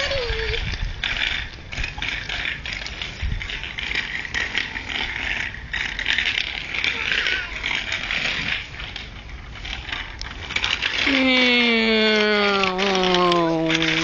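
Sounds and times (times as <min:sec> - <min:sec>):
bicycle rattling over concrete: 0:00.0 - 0:14.0.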